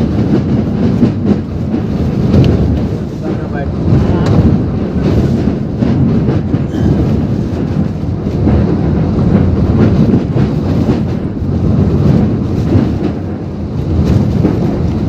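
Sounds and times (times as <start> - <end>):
driving rain: 0.0 - 15.0
strong wind buffeting microphone: 0.0 - 15.0.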